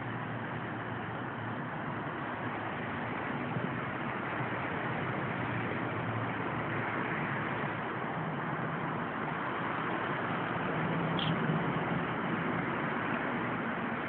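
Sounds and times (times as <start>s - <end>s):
distant city traffic hiss: 0.0s - 14.0s.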